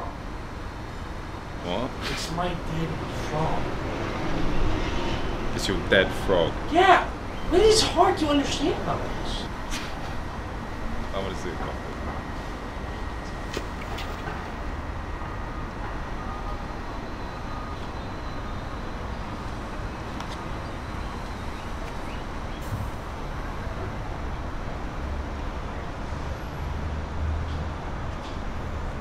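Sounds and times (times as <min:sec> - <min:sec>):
distant traffic rumble: 0:00.0 - 0:29.0.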